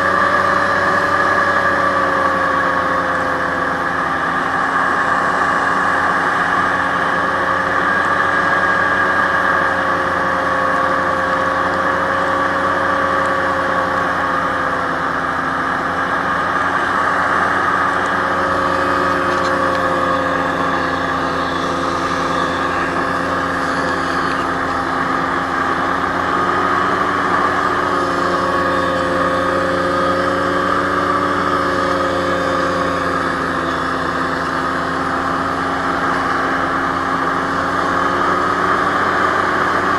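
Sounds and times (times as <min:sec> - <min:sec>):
hovercraft engine and fans droning: 0:00.0 - 0:39.9.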